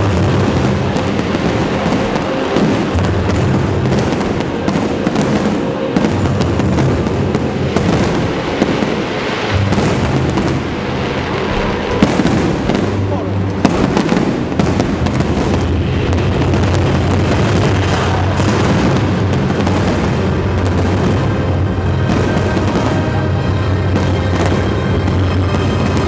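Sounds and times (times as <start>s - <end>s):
fireworks bangs: 0.0s - 26.0s
fireworks crackling and popping: 0.0s - 26.0s.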